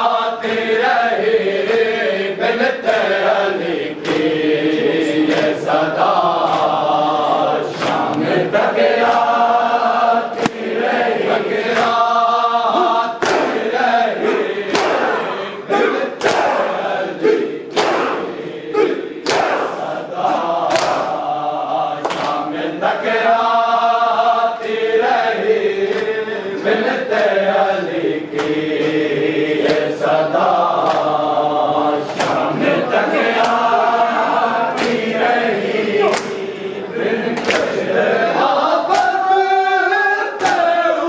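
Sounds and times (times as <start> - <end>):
men chanting together: 0.0 - 41.0
rhythmic chest-beating strikes: 0.0 - 41.0.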